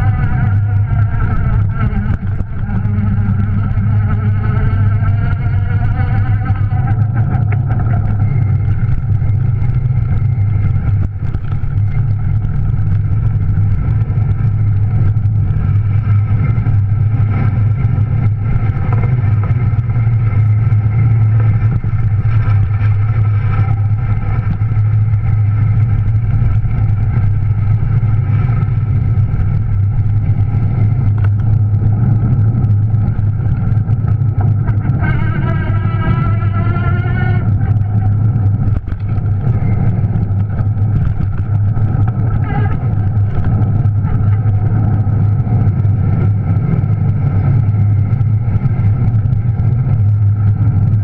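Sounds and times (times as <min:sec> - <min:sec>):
electric bike motor humming: 0:00.0 - 0:51.0
ride vibration: 0:00.0 - 0:51.0.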